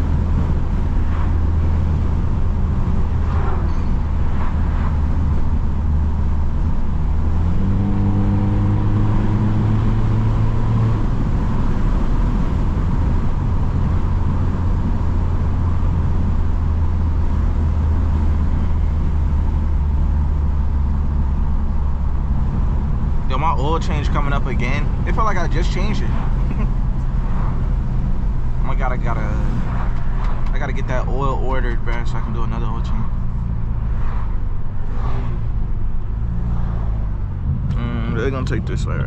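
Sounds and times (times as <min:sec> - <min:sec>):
car exhaust droning: 0:00.0 - 0:39.0.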